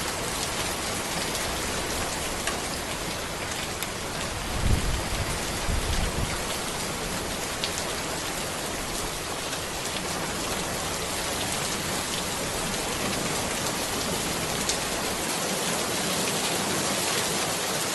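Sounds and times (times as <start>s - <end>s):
rain falling on a road: 0.0s - 17.9s.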